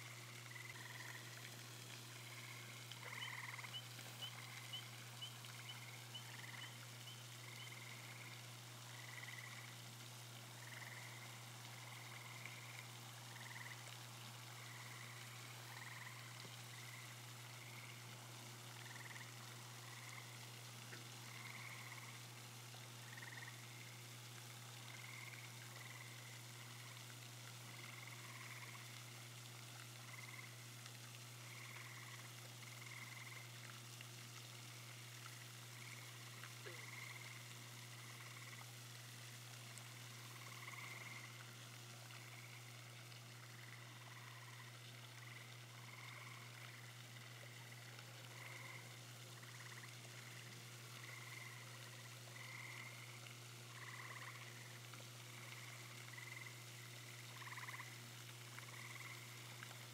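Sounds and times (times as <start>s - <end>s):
frogs calling faintly: 0.0s - 59.9s.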